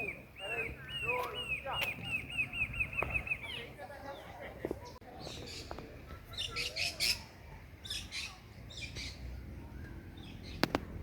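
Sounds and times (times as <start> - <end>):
birds calling harshly: 0.0 - 11.0.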